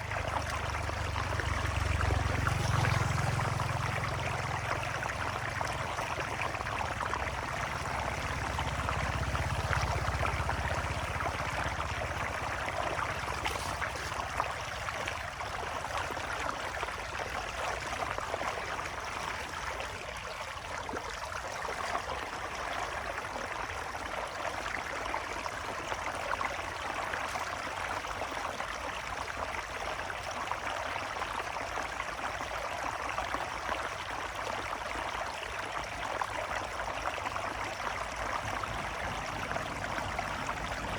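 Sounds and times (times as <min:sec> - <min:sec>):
floodwater rushing: 0:00.0 - 0:31.0, 0:32.8 - 0:40.9.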